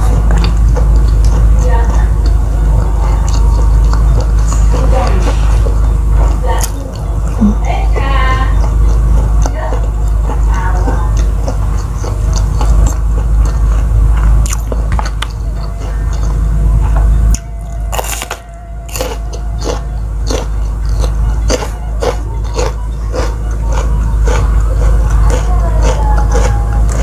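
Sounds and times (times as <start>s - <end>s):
crunchy chewing of raw vegetables: 0.0s - 27.0s.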